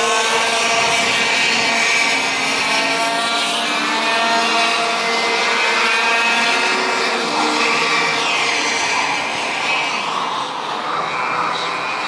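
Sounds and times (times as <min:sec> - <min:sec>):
racing kart engines buzzing: 0:00.0 - 0:12.0.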